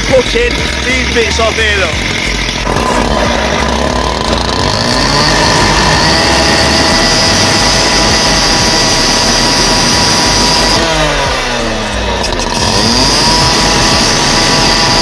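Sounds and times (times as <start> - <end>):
abrasive disc grinding metal: 0.0 - 15.0
cut-off saw running at high revs: 0.0 - 15.0.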